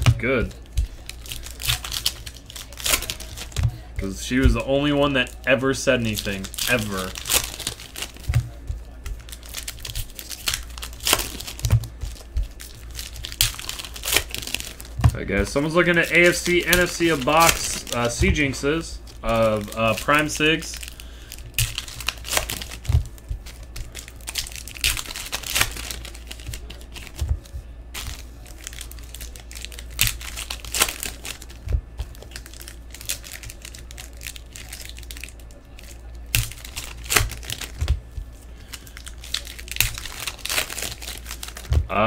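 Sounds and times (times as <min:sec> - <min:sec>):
foil wrappers crinkling: 0:00.0 - 0:42.0.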